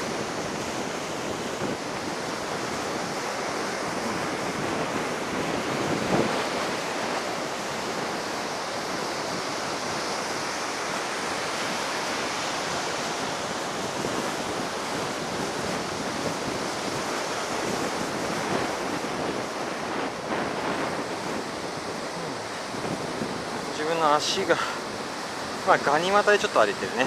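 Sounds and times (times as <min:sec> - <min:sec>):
heavy ocean surf breaking: 0:00.0 - 0:27.0
wind on microphone: 0:00.0 - 0:27.0.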